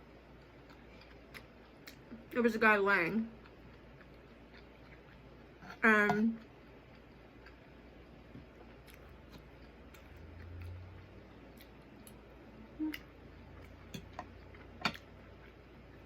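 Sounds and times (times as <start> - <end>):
person eating close to microphone: 0.3 - 2.4, 3.3 - 5.8, 6.4 - 16.0.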